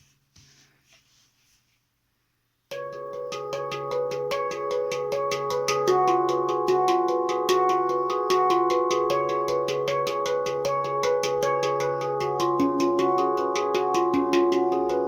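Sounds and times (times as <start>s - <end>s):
handpan played in quick strokes: 2.7s - 15.0s.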